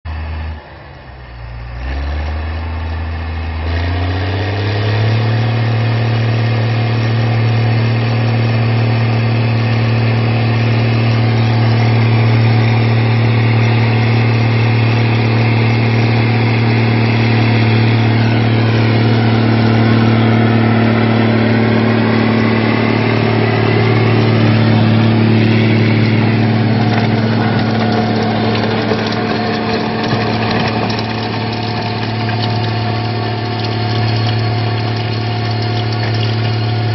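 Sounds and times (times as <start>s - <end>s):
tractor diesel engine revving: 0.1s - 36.9s.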